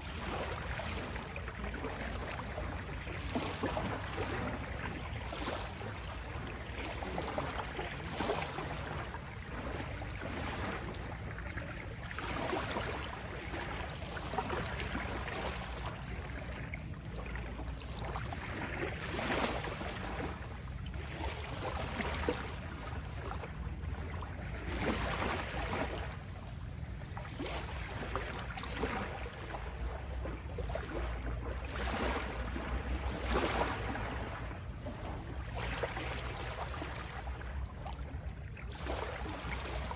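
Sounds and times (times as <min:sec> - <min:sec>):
low steady rumble: 0:00.0 - 0:39.9
small waves lapping on shore: 0:00.0 - 0:39.9.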